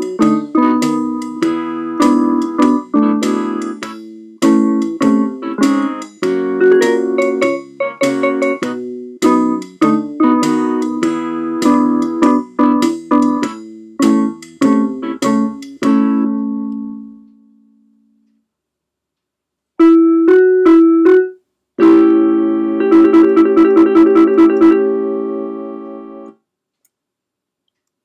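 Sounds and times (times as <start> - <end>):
keyboard playing ragtime blues: 0.0 - 17.2, 19.8 - 26.3.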